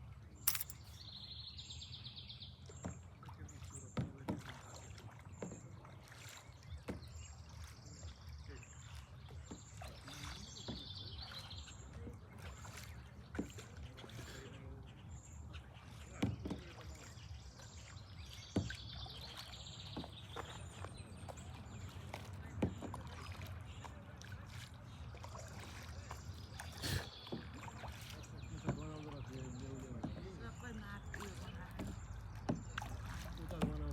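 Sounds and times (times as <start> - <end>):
paddle in water: 0.0 - 33.9
paddle knocking hull: 2.7 - 8.3, 8.9 - 33.9.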